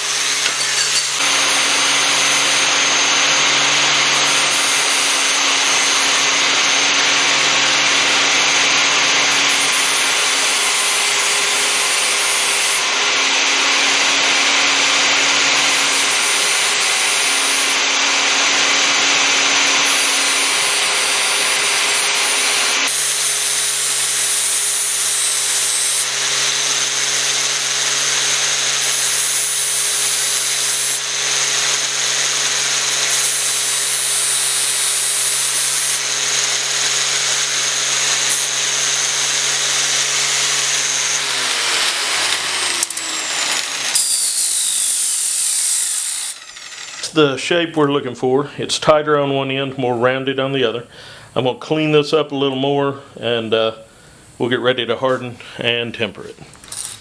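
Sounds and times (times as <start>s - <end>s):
angle grinder grinding steel: 0.0s - 47.7s, 56.6s - 57.0s.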